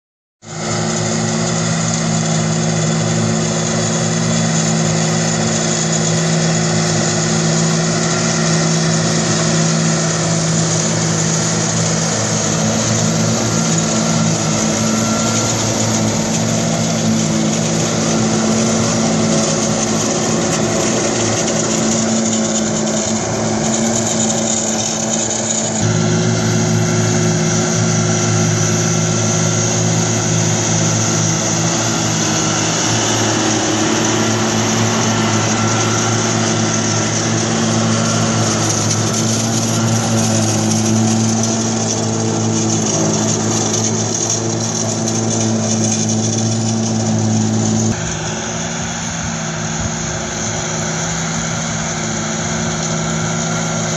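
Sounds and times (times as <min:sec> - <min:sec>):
forage harvester chopping grass: 0:00.4 - 0:53.9
tractor diesel engine drone: 0:00.4 - 0:53.9.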